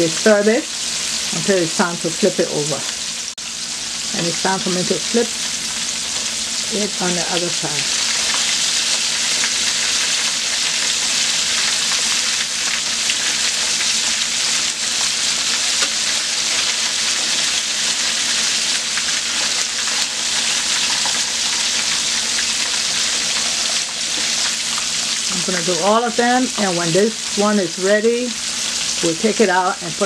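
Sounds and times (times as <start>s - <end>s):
ribs sizzling in hot oil: 0.0s - 30.0s.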